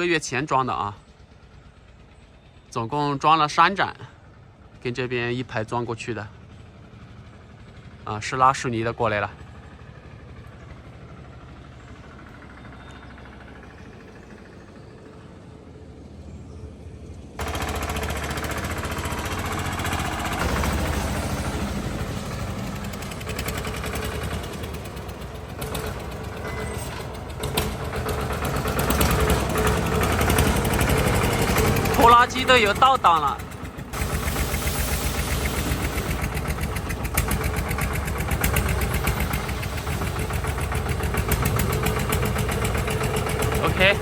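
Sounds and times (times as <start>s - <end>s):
tractor engine knocking: 0.0s - 15.2s, 17.4s - 44.0s.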